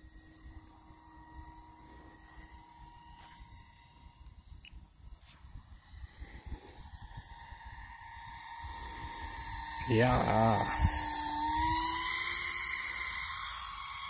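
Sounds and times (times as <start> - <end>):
model plane motor whining: 0.0 - 14.0
wind rumbling on microphone: 0.0 - 14.0.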